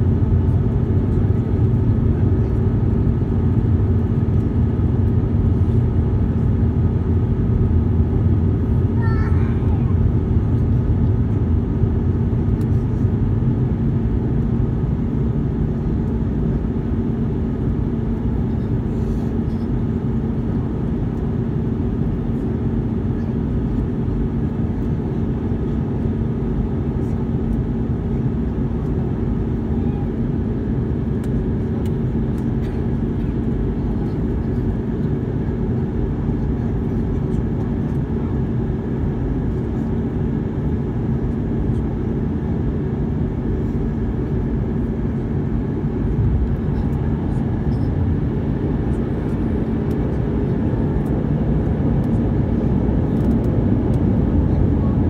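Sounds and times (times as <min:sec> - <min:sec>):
jet engines droning: 0:00.0 - 0:55.0
steady low hum: 0:00.0 - 0:55.0.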